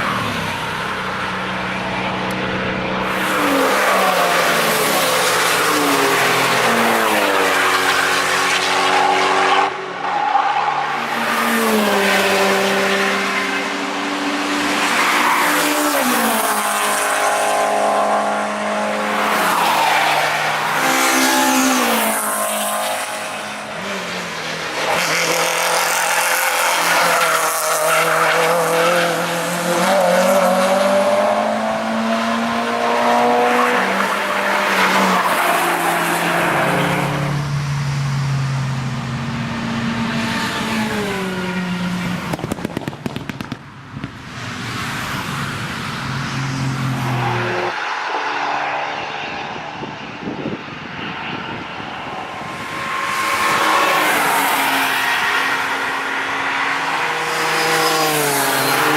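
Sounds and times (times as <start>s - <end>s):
race car engines revving: 0.0s - 58.9s.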